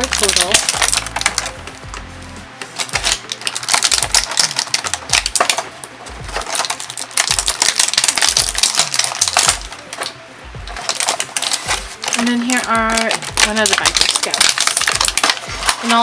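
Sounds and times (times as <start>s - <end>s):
plastic packaging crinkling: 0.0s - 1.9s, 2.6s - 16.0s.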